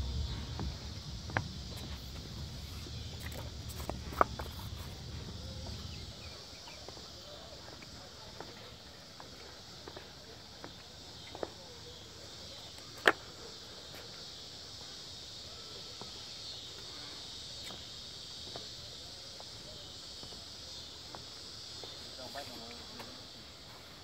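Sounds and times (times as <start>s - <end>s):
insects chirping chorus: 0.0s - 24.0s.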